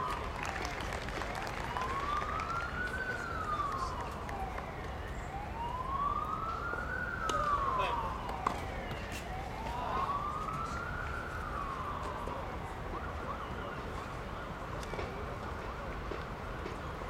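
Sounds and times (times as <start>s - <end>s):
siren wailing: 0.0s - 14.6s.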